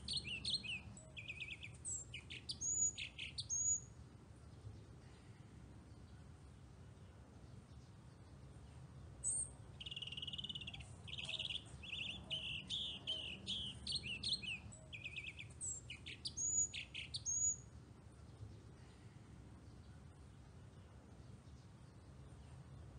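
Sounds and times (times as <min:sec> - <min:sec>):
songbird singing: 0:00.0 - 0:22.9.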